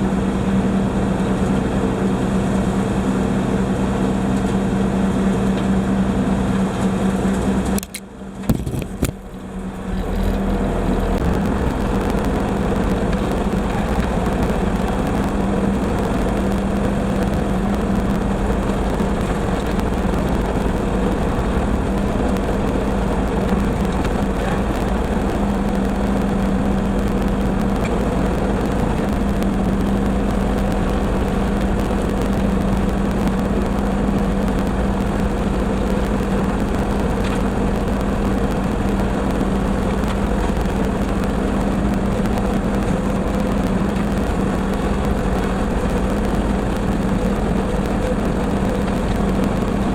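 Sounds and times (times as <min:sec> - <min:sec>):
tractor engine drone: 0:00.0 - 0:49.9.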